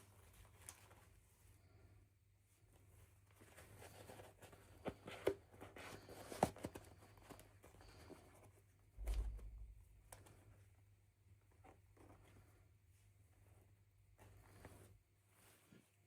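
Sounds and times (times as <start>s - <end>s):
faint rustling: 0.0s - 16.0s.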